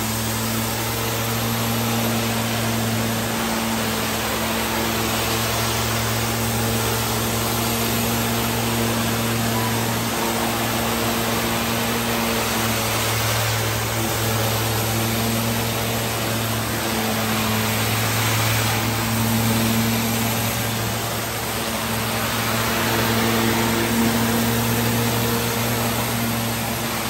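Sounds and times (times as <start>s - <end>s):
low motor hum: 0.0s - 27.0s
spray and vacuum extraction rush: 0.0s - 27.0s.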